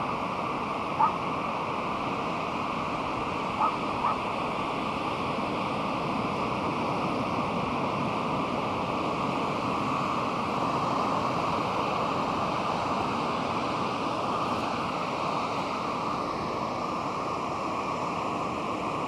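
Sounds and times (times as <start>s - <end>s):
ocean surf washing onto beach: 0.0s - 19.0s.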